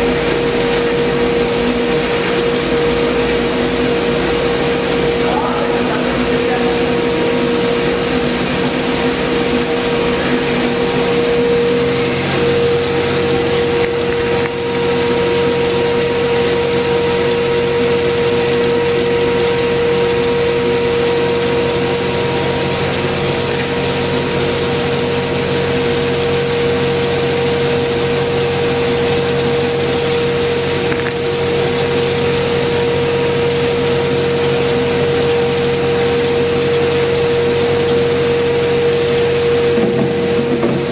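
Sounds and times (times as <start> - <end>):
centrifugal blower whirring: 0.0 - 40.9
plastic granulator running: 0.0 - 40.9.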